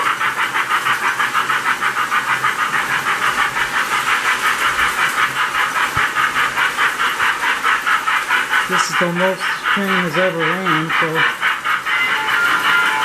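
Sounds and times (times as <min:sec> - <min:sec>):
toy train rhythmic hissing chuff: 0:00.0 - 0:13.0.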